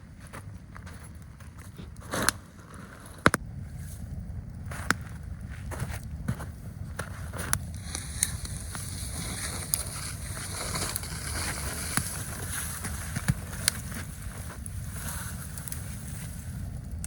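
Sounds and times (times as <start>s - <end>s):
low wind rumble: 0.0s - 17.0s
campfire popping and crackling: 0.1s - 17.0s.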